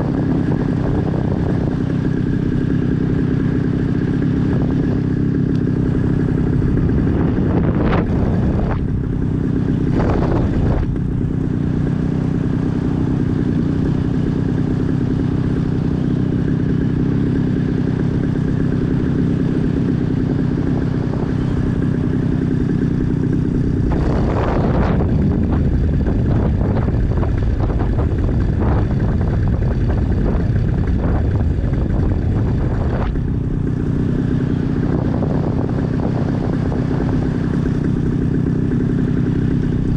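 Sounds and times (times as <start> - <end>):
small aircraft engine idling: 0.0 - 39.9.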